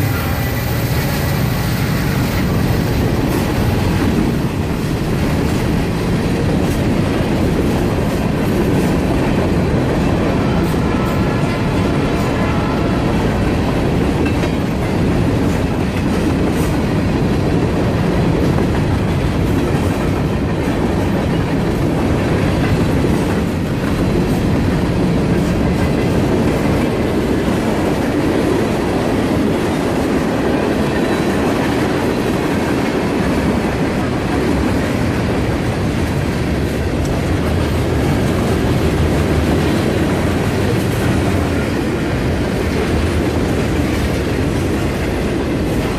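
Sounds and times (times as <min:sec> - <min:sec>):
clickety-clack of rail joints: 0:00.0 - 0:45.9
train wheels rumbling on rails: 0:00.0 - 0:45.9.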